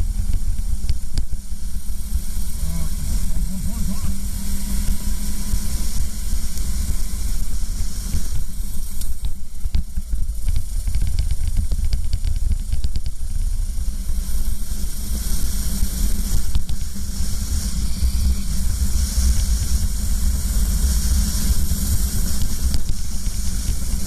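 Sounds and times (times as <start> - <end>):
kart engine running: 0.0 - 24.0
wind rush on microphone: 0.0 - 24.0.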